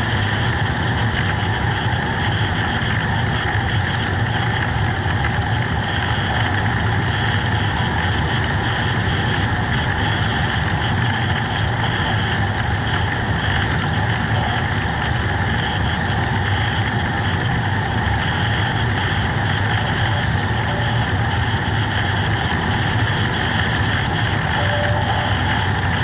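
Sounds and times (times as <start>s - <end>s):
model plane motor and propeller drone: 0.0s - 26.0s.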